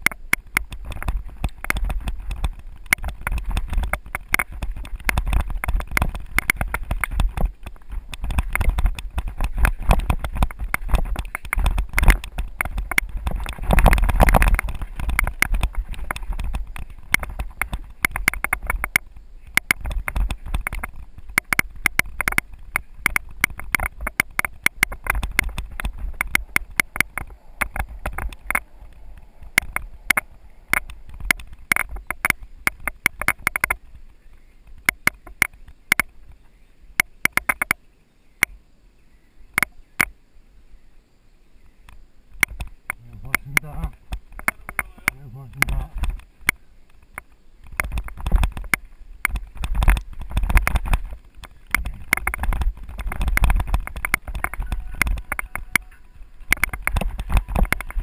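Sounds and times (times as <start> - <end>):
bike rattling over bumps: 0.0 - 37.8, 41.8 - 58.0
wind rumble on microphone: 0.0 - 37.8, 40.8 - 58.0.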